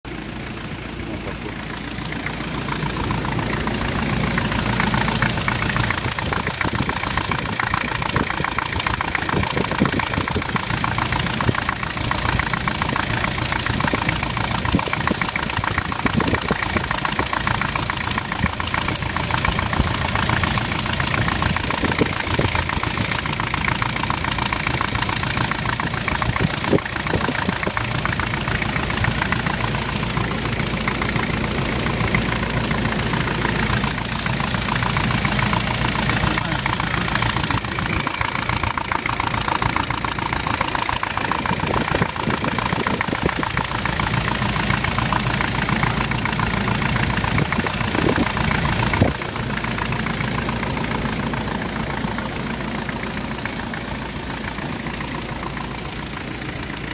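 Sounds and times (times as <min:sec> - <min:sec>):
diesel engine running: 0:00.0 - 0:56.9
engine knocking: 0:00.0 - 0:56.9.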